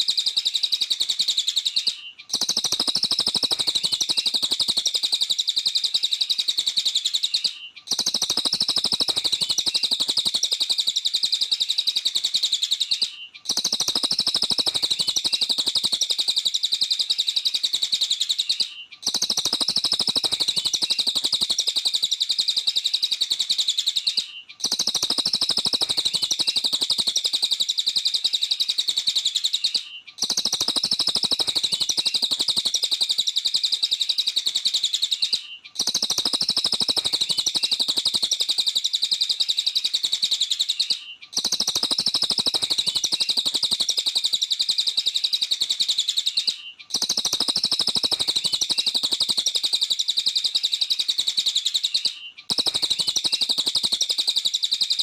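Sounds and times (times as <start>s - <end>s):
songbird chirping and trilling: 0.0s - 55.0s.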